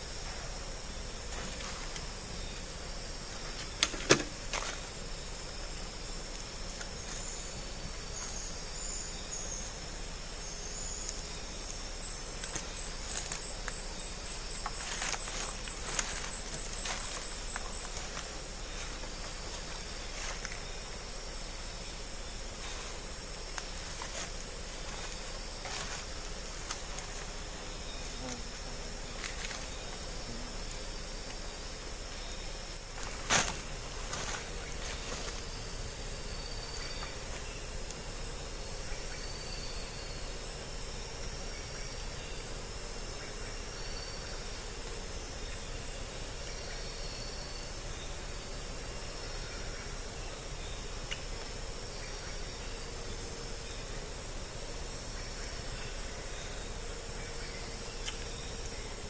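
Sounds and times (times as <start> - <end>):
insects chorusing: 0.0 - 59.0
rapid cricket-like trill: 0.0 - 59.0.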